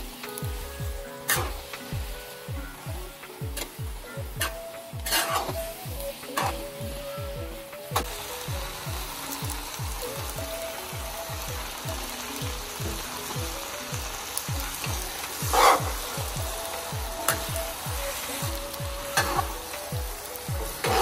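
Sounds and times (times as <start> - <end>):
background music with deep beat: 0.0 - 21.0
vegetables sizzling in a wok: 0.0 - 21.0.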